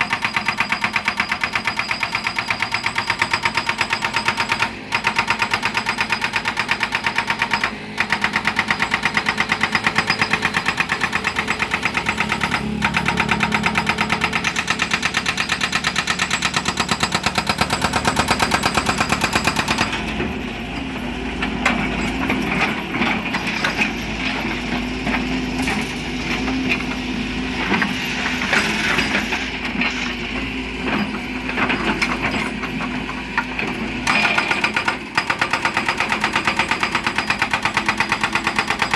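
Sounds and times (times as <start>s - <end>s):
hydraulic breaker hammer pounding rock: 0.0s - 38.9s
excavator engine running: 4.4s - 38.9s.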